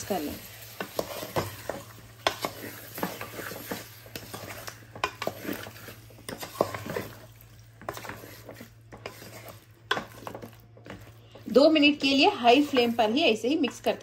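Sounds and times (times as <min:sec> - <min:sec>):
oil sizzling: 0:00.0 - 0:14.0
spatula scraping metal pot: 0:00.8 - 0:14.0.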